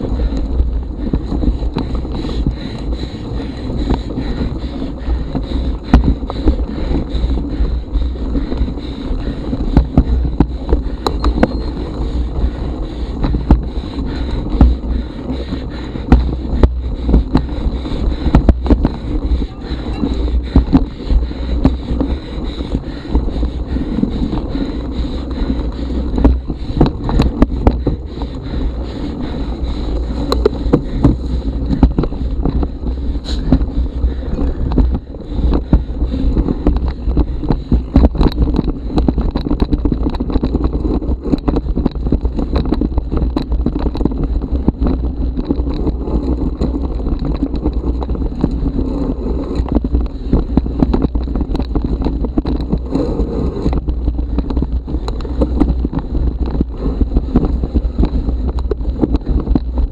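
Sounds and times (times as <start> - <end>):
bike rattling on dirt trail: 0.0 - 59.9
wind on microphone: 0.0 - 59.9.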